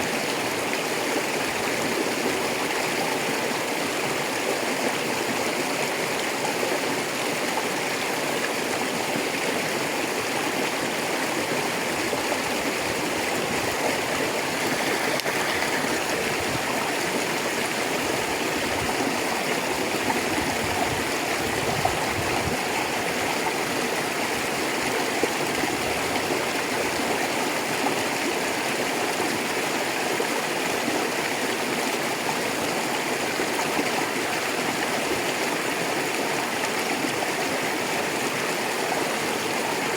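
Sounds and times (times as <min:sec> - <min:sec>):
water babbling over stones: 0:00.0 - 0:39.9.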